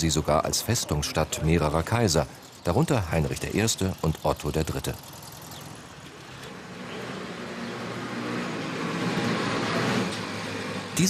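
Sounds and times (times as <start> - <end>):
wheels over cobblestones: 0.0 - 11.0
small engine running: 0.7 - 11.0.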